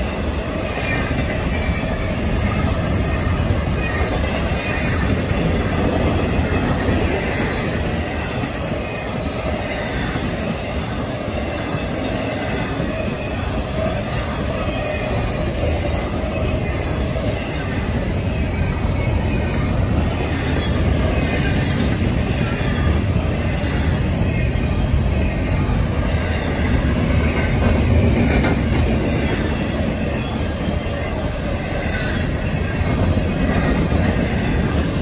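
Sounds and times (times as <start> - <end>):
train wheels running on rails: 0.0 - 35.0.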